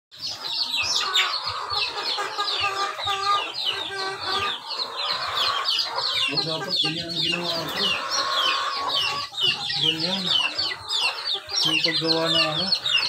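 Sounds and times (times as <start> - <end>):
chickens clucking: 0.2 - 13.0.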